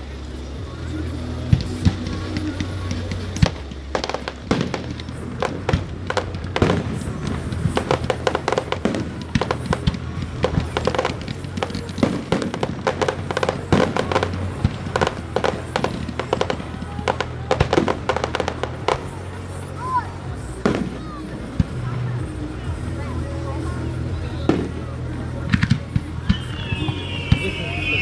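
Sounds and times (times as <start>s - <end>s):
fireworks bangs and crackling: 0.0s - 28.0s
music playing: 0.0s - 28.0s.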